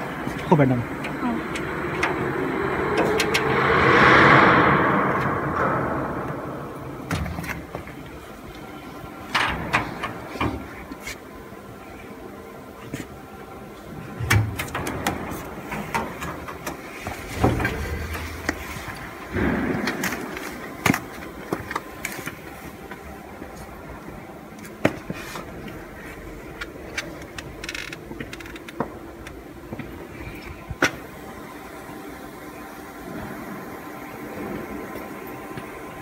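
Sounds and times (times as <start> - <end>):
machine-shop hum: 0.0 - 36.0.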